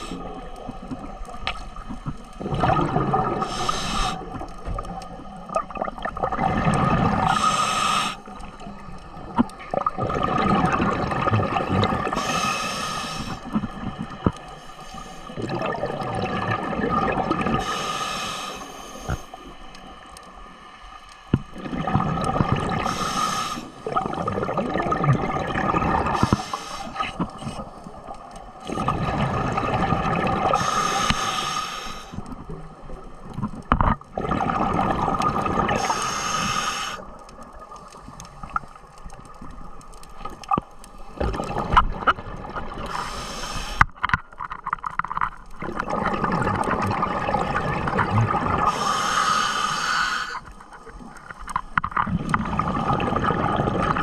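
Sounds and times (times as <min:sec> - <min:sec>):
ocean water surging and sloshing: 0:00.0 - 0:54.0.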